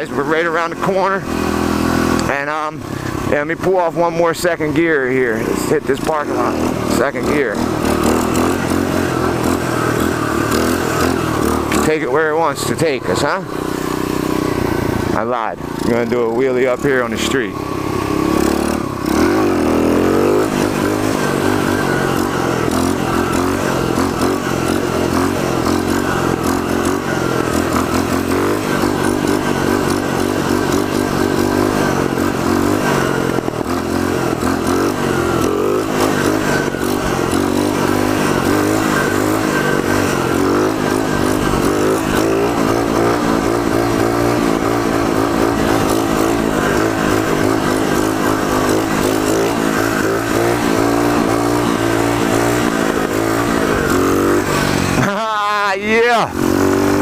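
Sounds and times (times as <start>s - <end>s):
small motorcycle engine revving: 0.0s - 57.0s.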